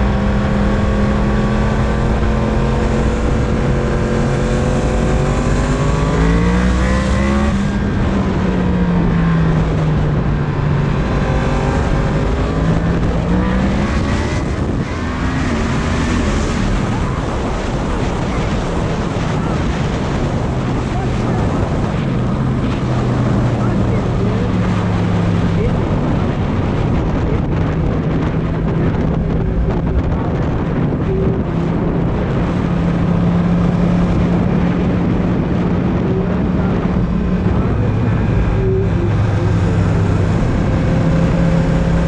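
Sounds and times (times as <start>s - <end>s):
motorcycle engine revving: 0.0s - 42.0s
wind buffeting microphone: 0.0s - 42.0s.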